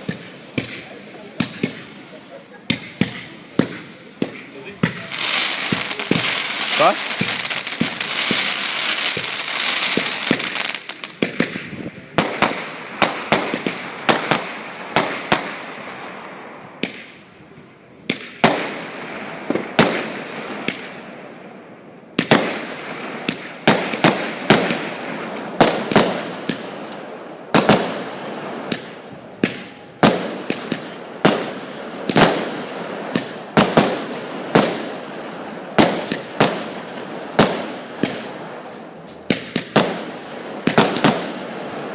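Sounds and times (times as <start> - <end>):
fireworks bangs: 0.0 - 41.9
fireworks crackling hiss: 0.0 - 41.9.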